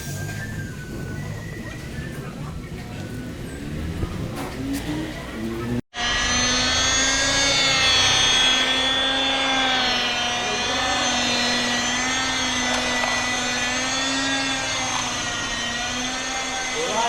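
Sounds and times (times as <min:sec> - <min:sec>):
motor whining: 0:00.2 - 0:17.0.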